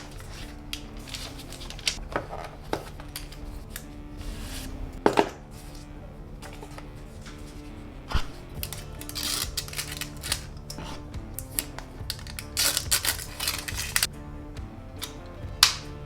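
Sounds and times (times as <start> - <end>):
cardboard box rustling and tearing: 0.0 - 14.1
soft background music: 0.0 - 16.0.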